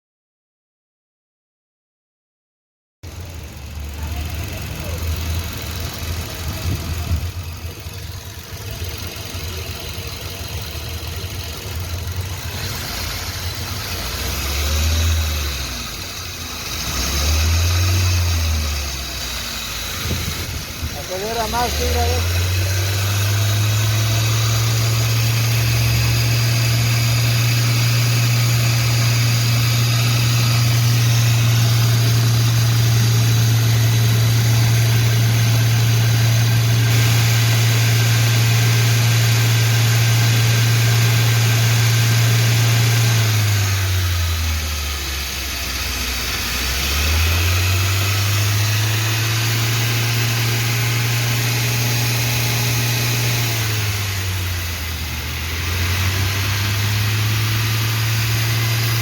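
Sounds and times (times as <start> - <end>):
car engine running: 3.0 - 59.0.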